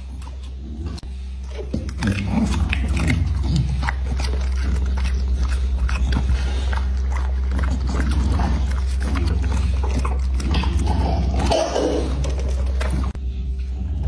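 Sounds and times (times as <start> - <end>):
dog chewing crunchy food: 0.0 - 13.2
steady low hum: 0.0 - 14.0.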